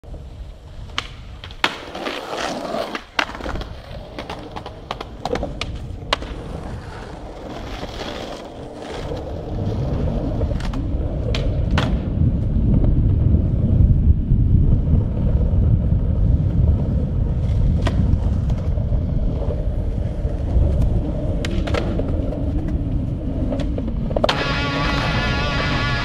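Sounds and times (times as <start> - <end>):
skateboard wheels rolling on concrete: 0.0 - 26.0
skateboard clacks: 0.4 - 13.7, 14.8 - 26.0.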